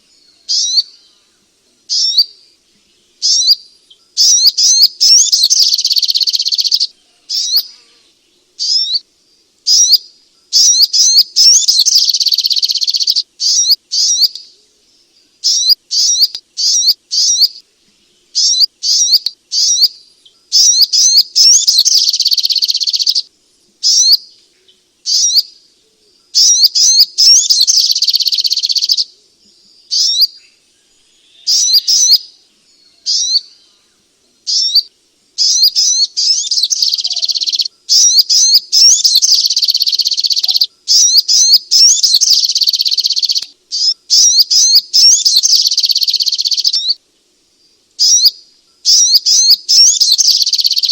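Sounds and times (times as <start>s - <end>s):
bird chirping and trilling: 0.0s - 1.3s, 1.9s - 8.0s, 8.6s - 9.0s, 9.7s - 14.6s, 15.2s - 17.6s, 18.3s - 25.6s, 26.4s - 29.1s, 29.7s - 47.0s, 48.0s - 50.9s.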